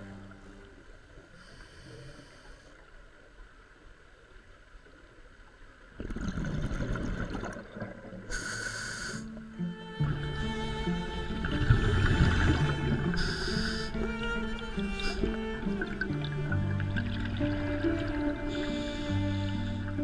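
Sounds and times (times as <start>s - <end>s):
water rushing and bubbling: 0.0s - 20.0s.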